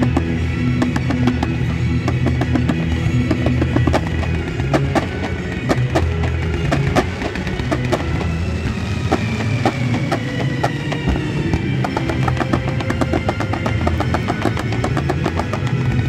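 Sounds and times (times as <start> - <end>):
fireworks popping and crackling: 0.0 - 16.0
music with drums: 0.0 - 16.0.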